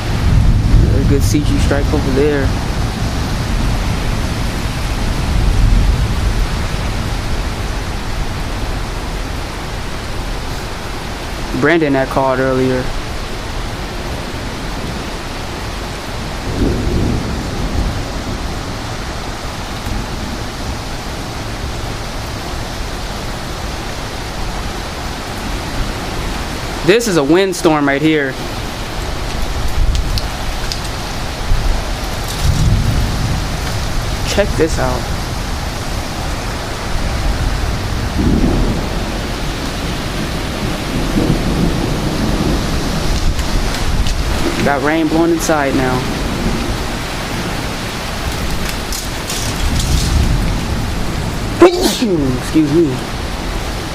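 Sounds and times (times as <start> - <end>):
rain: 0.0 - 53.9
strong wind blowing: 0.0 - 53.9
thunder rumble: 0.0 - 53.9.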